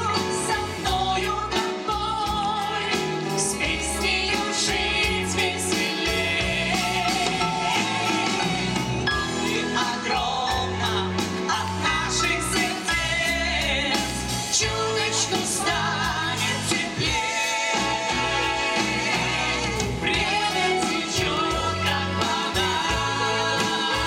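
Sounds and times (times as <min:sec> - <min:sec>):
bass guitar: 0:00.0 - 0:24.0
drum kit: 0:00.0 - 0:24.0
two women singing: 0:00.0 - 0:24.0.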